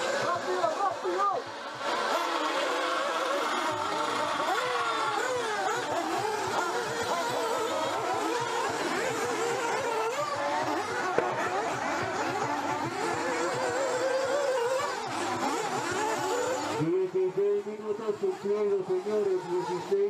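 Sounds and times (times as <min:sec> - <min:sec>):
rc buggy engines revving: 0:00.0 - 0:20.0.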